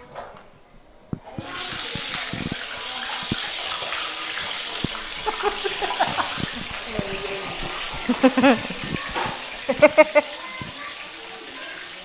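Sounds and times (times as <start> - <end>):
sausage sizzling in hot oil: 1.3 - 12.0.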